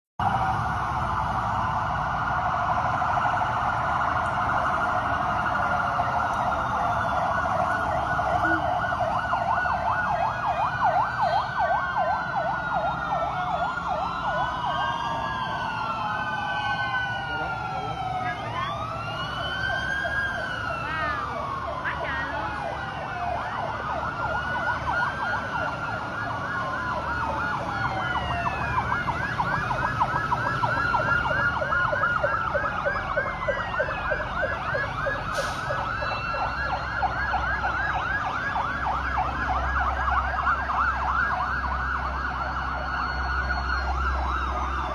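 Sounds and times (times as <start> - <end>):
fast siren yelp: 0.2 - 44.9
sirens wailing: 0.2 - 44.9.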